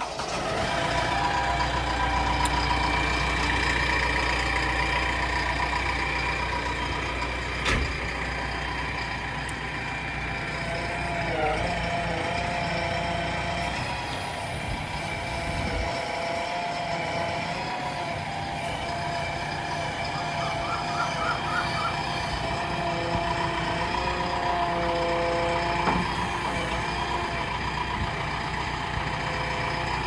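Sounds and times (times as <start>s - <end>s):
diesel engine running: 0.0s - 30.0s
whining tones: 0.3s - 30.0s.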